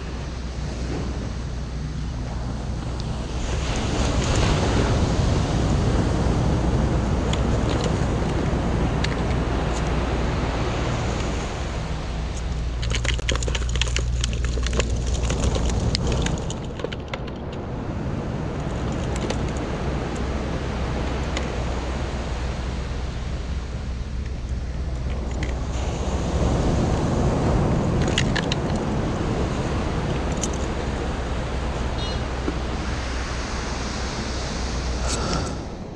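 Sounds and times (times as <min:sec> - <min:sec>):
surf rushing: 0:00.0 - 0:35.9
wind buffeting microphone: 0:00.0 - 0:35.9.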